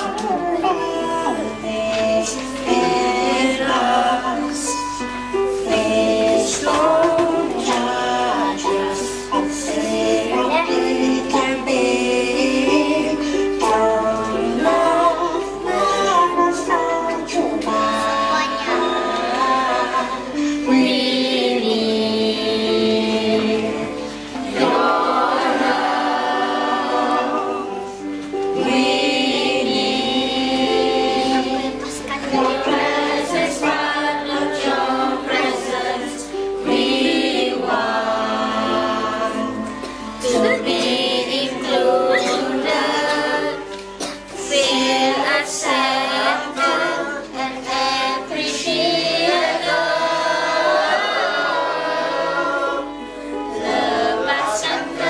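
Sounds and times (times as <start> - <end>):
group singing together: 0.0 - 55.0.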